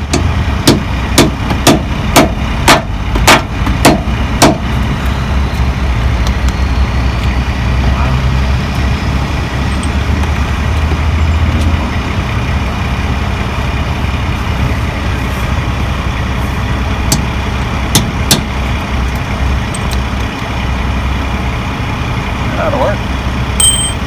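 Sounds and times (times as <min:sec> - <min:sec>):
low rumble of motor vehicles: 0:00.0 - 0:24.0.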